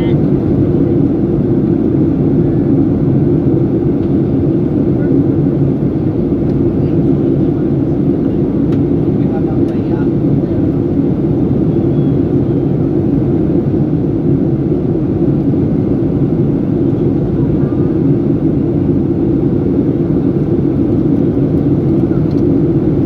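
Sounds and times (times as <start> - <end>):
airplane cabin engine roar: 0.0 - 23.0.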